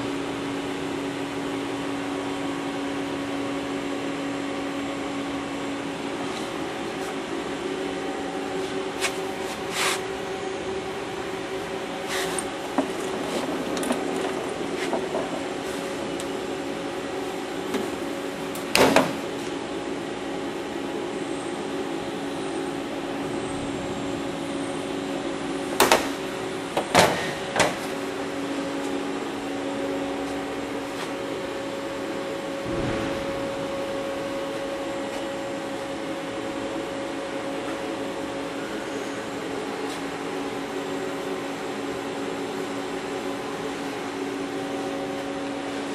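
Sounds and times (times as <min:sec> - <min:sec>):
lathe humming with steady tones: 0:00.0 - 0:45.9.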